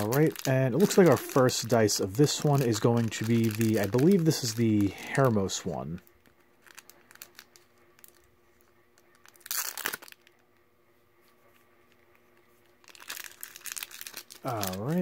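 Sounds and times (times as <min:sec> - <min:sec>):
plastic bag crinkling: 0:00.0 - 0:10.6, 0:11.4 - 0:15.0.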